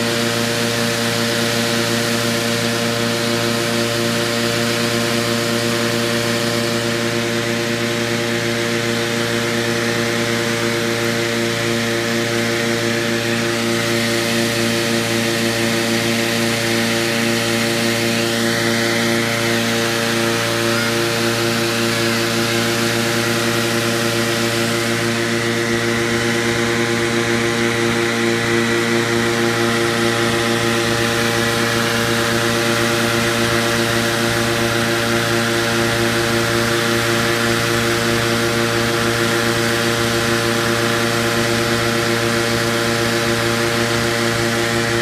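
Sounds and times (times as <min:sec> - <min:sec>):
inflator fan engine hum: 0:00.0 - 0:45.0.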